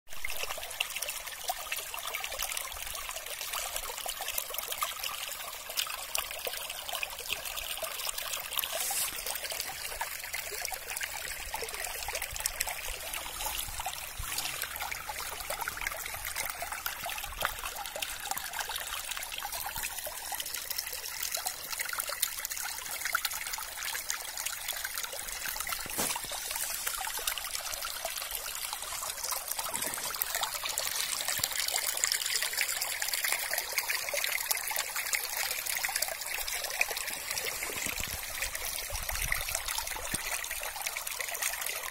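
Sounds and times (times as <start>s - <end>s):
stream babbling over pebbles: 0.1s - 41.9s.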